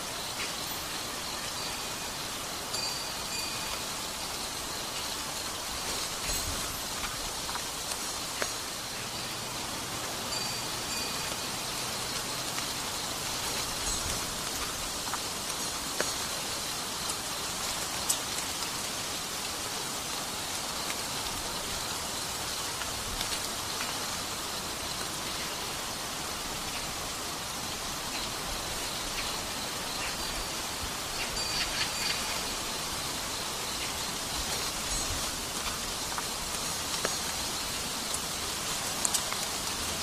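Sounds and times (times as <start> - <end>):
raindrops ticking on surfaces: 0.0 - 40.0
steady rain hiss: 0.0 - 40.0.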